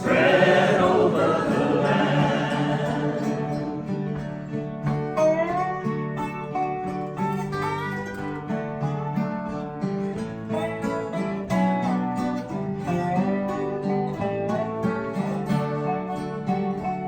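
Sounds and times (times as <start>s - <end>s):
acoustic guitar and plucked strings: 0.0s - 17.0s.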